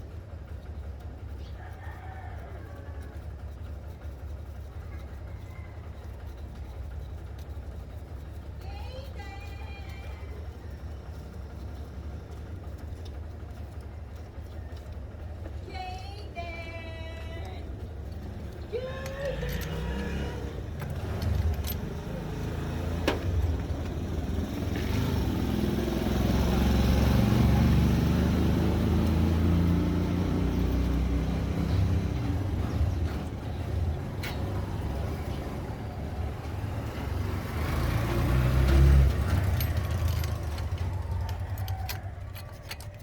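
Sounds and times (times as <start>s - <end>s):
vehicle engine running: 0.0s - 43.0s.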